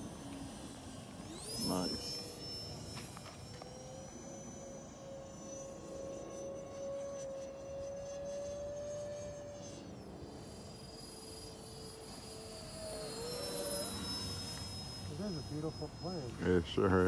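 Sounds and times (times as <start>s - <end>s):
model jet fans whining overhead: 0.0s - 17.0s.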